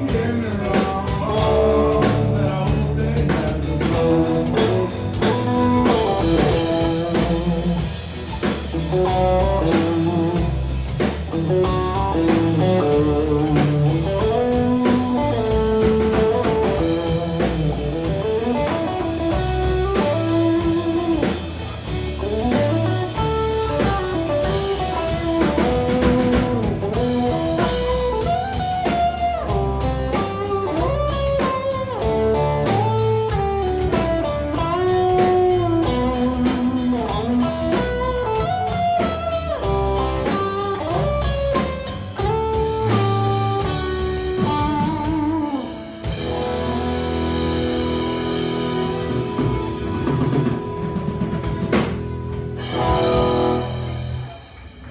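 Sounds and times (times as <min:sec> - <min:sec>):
bass: 0:00.0 - 0:54.9
drums: 0:00.0 - 0:54.9
lead electric guitar: 0:00.0 - 0:54.9.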